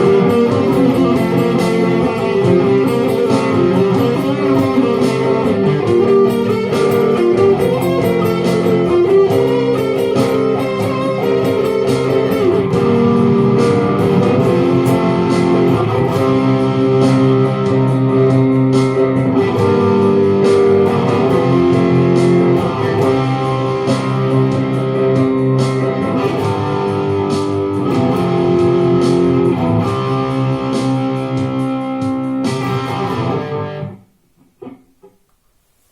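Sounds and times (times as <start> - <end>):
layered guitar loops: 0.0 - 35.3.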